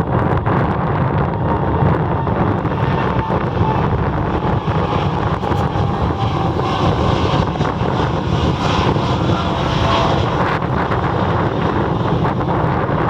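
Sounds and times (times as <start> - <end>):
jet engines roaring at takeoff: 0.0 - 13.0
wind rumbling on microphone: 0.0 - 13.0.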